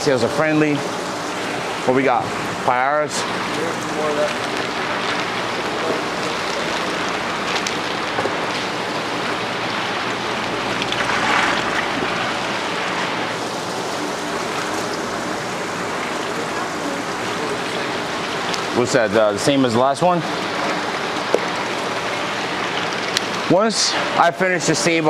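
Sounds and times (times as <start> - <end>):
water splashing into tubs: 0.0 - 24.4
steady low hum: 0.0 - 25.0.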